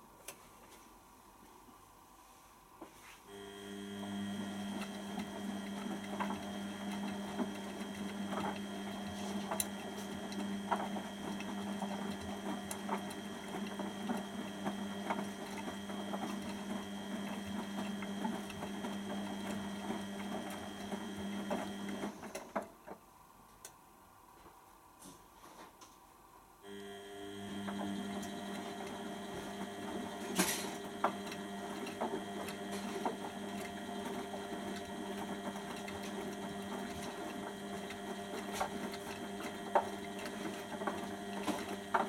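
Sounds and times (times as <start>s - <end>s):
washing machine drum motor: 3.3s - 22.4s, 26.7s - 42.0s.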